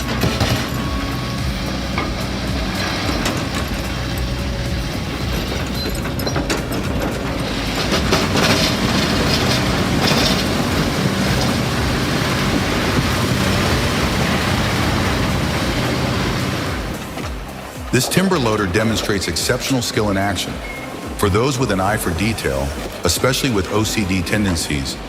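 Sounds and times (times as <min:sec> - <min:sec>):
cracking and clattering: 0:00.0 - 0:23.9
heavy machine engine running: 0:00.0 - 0:25.0.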